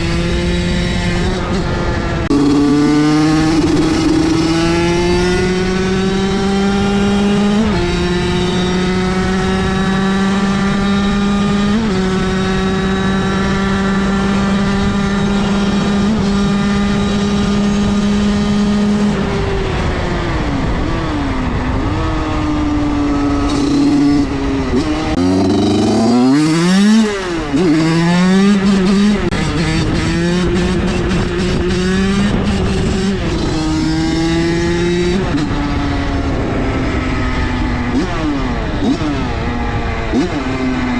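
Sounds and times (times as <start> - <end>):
motorcycle engine revving: 0.0 - 19.8, 20.6 - 40.9.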